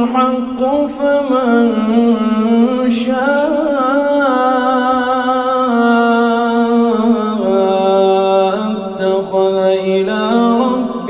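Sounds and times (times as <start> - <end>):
man reciting melodically: 0.0 - 11.0.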